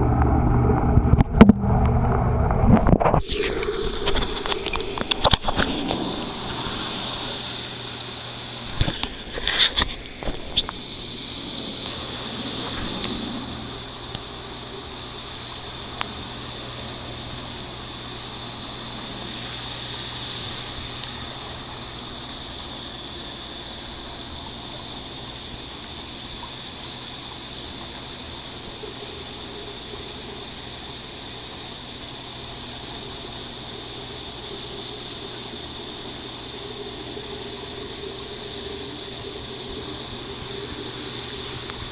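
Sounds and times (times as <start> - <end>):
pump hum: 0.0 - 41.9
water trickling: 0.0 - 41.9.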